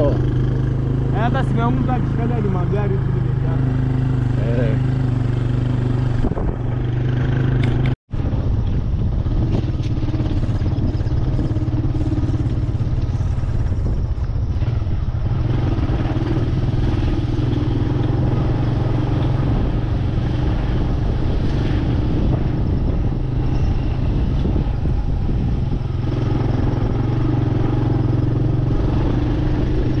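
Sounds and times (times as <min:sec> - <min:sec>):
motorcycle engine droning: 0:00.0 - 0:30.0
rushing wind noise: 0:00.0 - 0:30.0.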